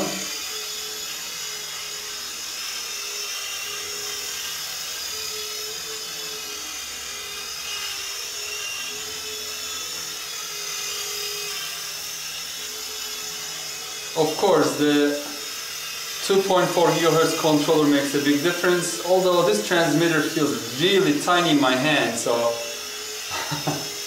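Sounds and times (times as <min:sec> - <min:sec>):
toy helicopter motors whining: 0:00.0 - 0:24.0.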